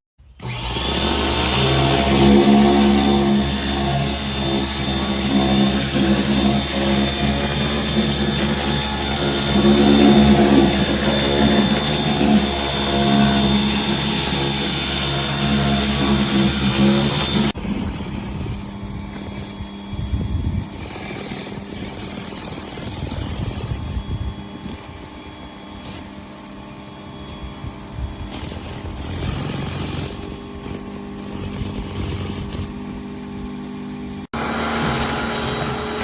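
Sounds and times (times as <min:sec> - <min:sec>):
pressure washer motor hum: 0:00.4 - 0:36.0.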